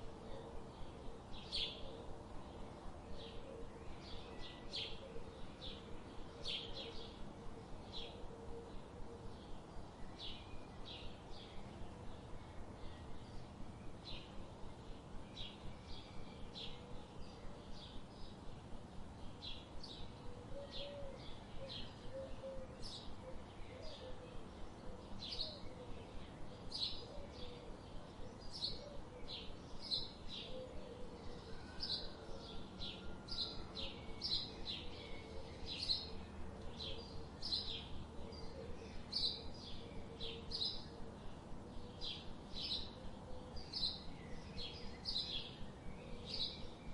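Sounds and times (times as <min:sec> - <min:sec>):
forest birds chirping: 0:00.0 - 0:46.9
low background hiss: 0:00.0 - 0:46.9.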